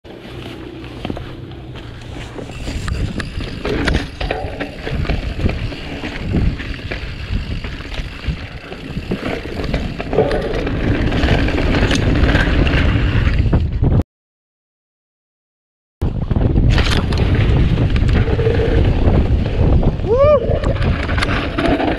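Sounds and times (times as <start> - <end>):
bike clattering over rough ground: 0.1 - 13.9, 16.2 - 21.9
wind buffeting microphone: 1.0 - 14.0, 16.0 - 21.9.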